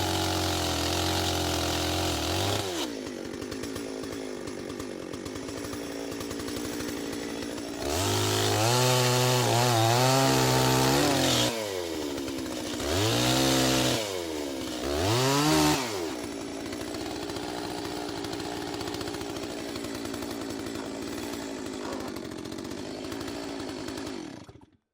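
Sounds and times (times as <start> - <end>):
chainsaw engine idling and revving: 0.0 - 24.9.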